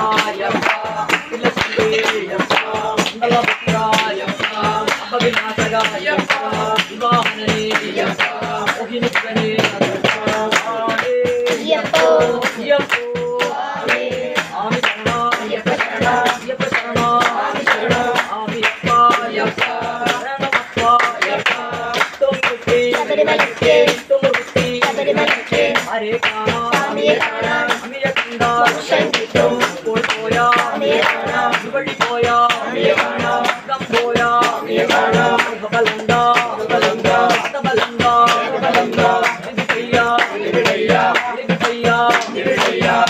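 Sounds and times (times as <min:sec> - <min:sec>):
fast hand percussion: 0:00.0 - 0:43.0
jingling tambourine beat: 0:00.0 - 0:43.0
voices singing: 0:00.0 - 0:43.0.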